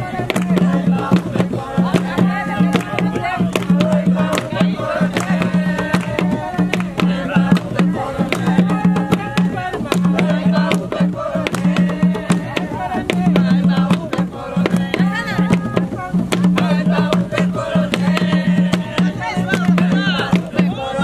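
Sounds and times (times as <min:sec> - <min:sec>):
drums beaten in quick rhythm: 0:00.0 - 0:21.0
voices singing: 0:00.0 - 0:21.0.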